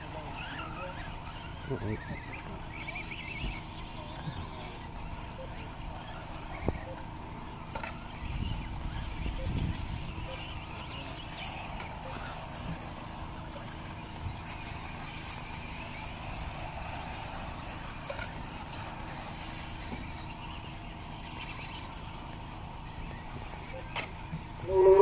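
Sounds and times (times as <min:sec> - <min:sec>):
wavering motor whine: 0:00.0 - 0:25.0.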